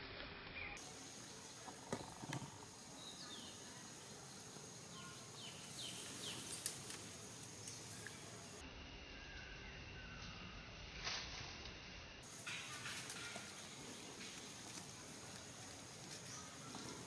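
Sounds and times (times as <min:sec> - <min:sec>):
high insect drone: 0:00.8 - 0:11.1, 0:11.8 - 0:17.0.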